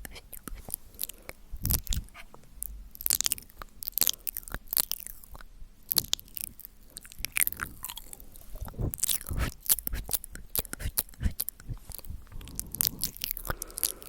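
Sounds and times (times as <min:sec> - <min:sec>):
wet mouth clicks and smacks: 0:00.0 - 0:14.0.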